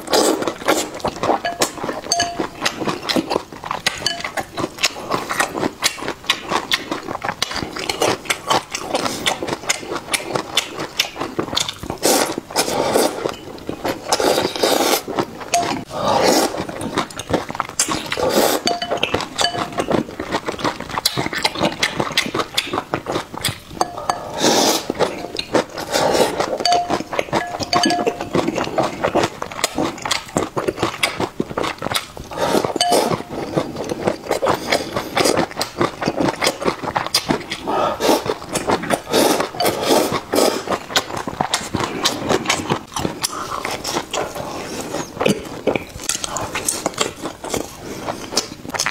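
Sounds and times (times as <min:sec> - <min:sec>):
slurping noodles: 0:00.0 - 0:48.9
wet chewing and lip smacks: 0:00.0 - 0:48.9.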